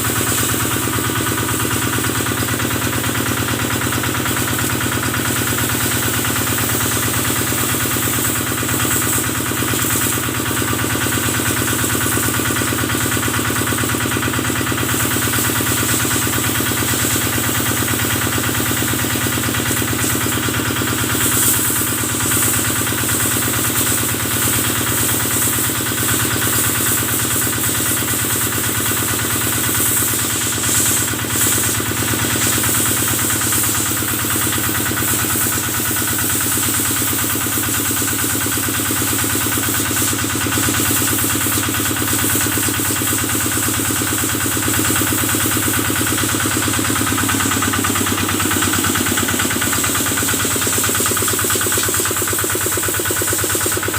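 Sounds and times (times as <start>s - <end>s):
stationary engine running: 0.0s - 53.9s.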